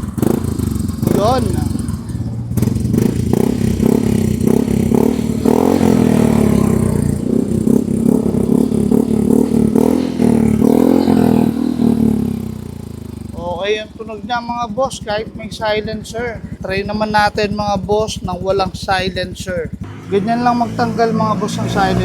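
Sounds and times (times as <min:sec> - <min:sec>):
scooter engine revving: 0:00.0 - 0:22.0.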